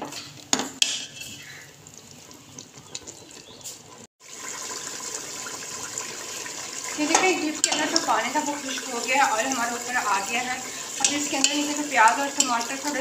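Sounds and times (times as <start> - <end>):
food sizzling in metal pot: 0.0 - 3.0, 3.6 - 13.0.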